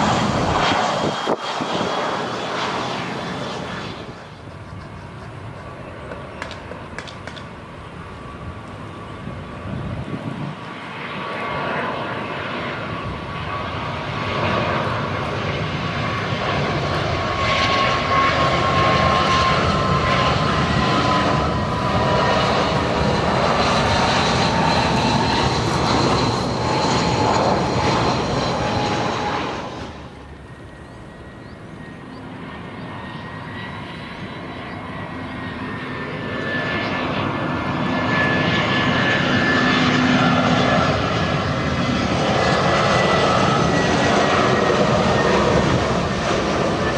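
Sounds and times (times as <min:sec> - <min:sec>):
high jet whine: 0:00.0 - 0:46.9
jet airliner engines passing: 0:00.0 - 0:46.9.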